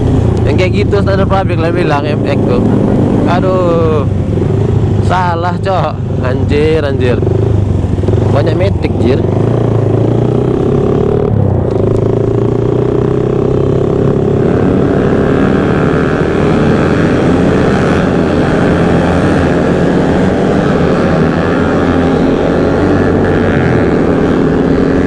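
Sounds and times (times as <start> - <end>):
motorcycle engines droning: 0.0 - 25.0.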